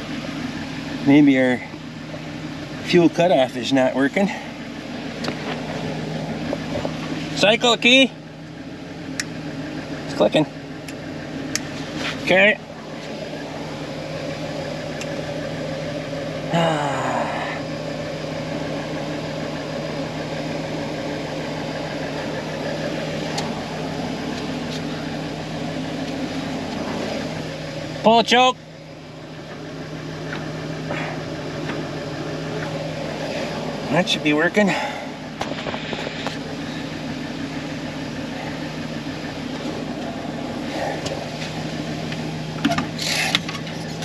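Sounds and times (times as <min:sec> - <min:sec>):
engine droning: 0:00.0 - 0:44.0.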